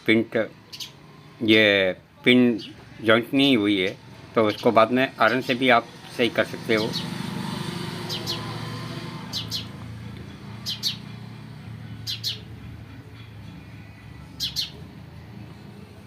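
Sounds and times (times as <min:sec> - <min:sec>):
small birds chirping: 0:00.2 - 0:01.7, 0:02.3 - 0:16.0.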